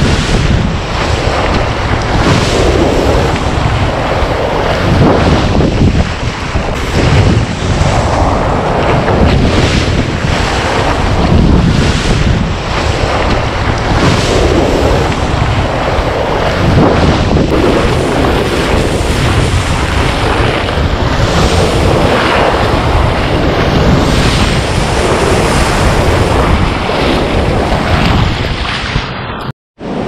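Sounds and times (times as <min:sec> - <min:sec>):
whitewater rushing and spraying: 0:00.0 - 0:29.0
wind buffeting microphone: 0:00.0 - 0:30.0.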